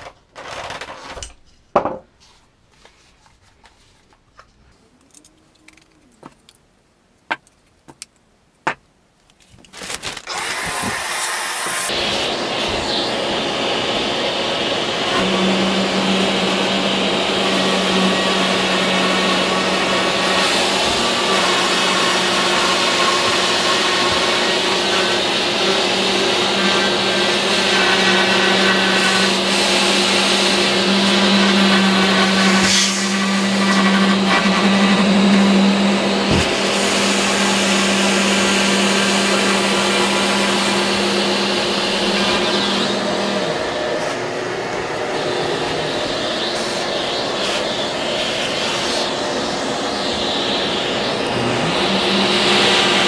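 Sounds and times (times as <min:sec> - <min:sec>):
electric router cutting foam: 0:10.0 - 0:53.0
shop vacuum running: 0:10.0 - 0:53.0.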